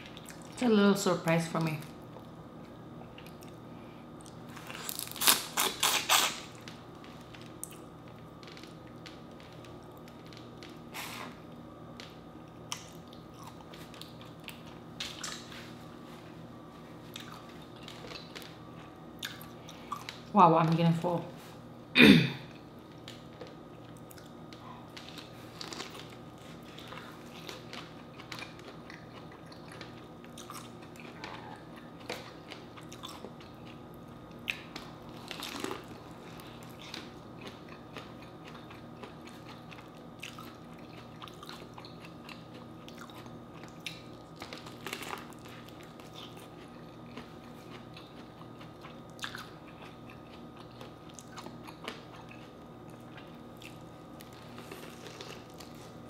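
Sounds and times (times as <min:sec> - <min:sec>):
faint steady hum: 0:00.0 - 0:56.0
person chewing corn: 0:03.0 - 0:20.3, 0:22.5 - 0:56.0.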